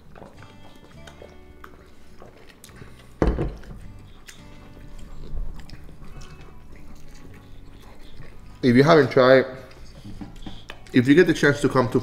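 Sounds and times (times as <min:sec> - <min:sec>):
person chewing food: 0:00.0 - 0:11.1
faint background music: 0:00.0 - 0:12.0.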